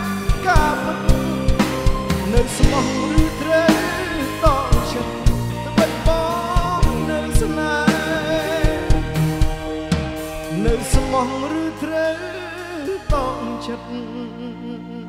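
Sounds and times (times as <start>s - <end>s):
drum kit steady beat: 0.0s - 12.1s
live pop band playing: 0.0s - 15.0s.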